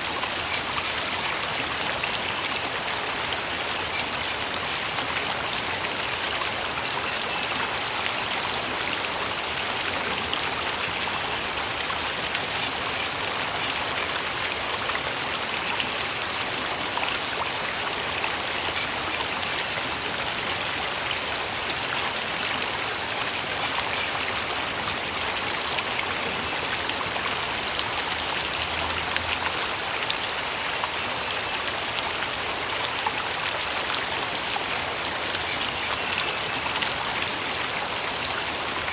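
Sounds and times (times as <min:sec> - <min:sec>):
stream water flowing and splashing: 0:00.0 - 0:38.9.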